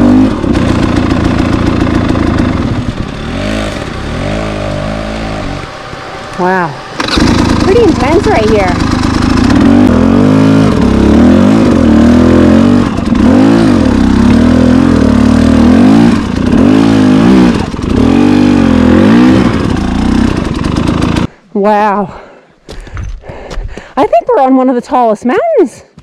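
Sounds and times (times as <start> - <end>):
dirt bike engine revving: 0.0 - 21.3.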